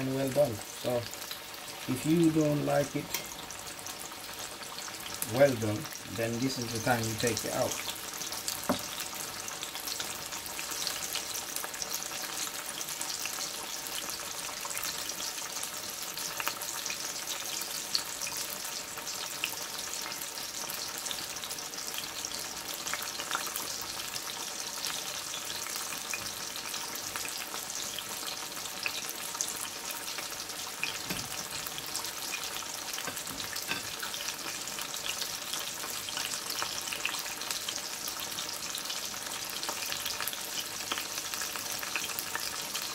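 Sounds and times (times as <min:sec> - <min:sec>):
food deep-frying in oil: 0:00.0 - 0:42.9.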